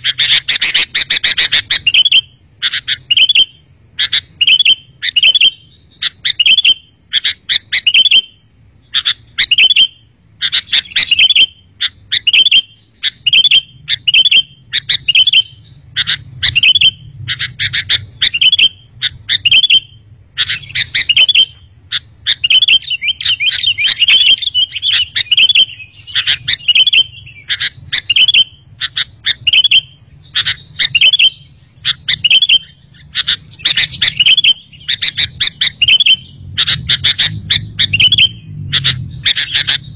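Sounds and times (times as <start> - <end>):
bulbuls calling: 0.0 - 39.9
faint low hum: 0.0 - 39.9.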